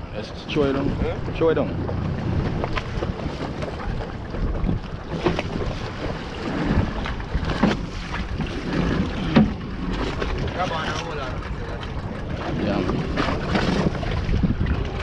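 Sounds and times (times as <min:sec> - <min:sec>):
low rumble of open sea: 0:00.0 - 0:15.0
water sloshing around boat: 0:00.0 - 0:15.0
wind buffeting microphone: 0:00.0 - 0:15.0.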